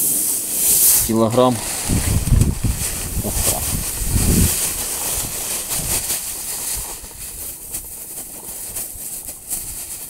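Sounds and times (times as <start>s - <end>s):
seed poured into metal tub: 0.0s - 10.0s.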